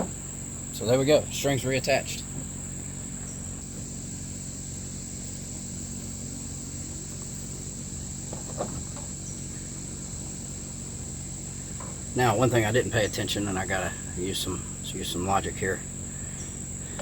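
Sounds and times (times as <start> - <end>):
crickets chirping: 0.0 - 17.0
low hum: 0.0 - 17.0.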